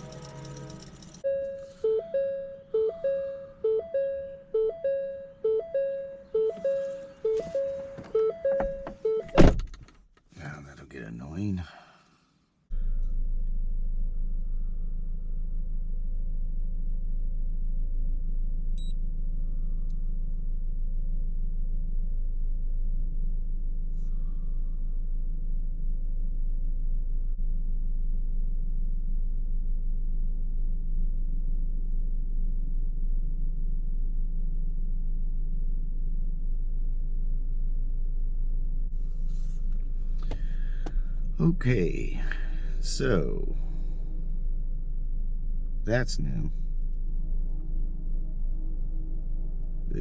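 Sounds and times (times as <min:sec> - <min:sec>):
car engine running: 0:00.0 - 0:09.0, 0:12.8 - 0:50.0.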